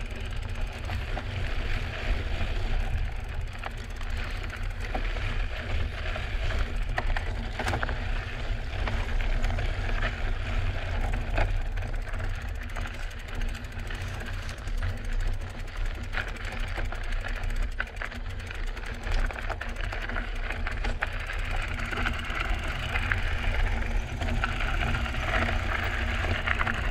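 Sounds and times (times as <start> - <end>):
bike clicks and rattles: 0.0 - 26.9
tyres crunching over gravel: 0.0 - 26.9.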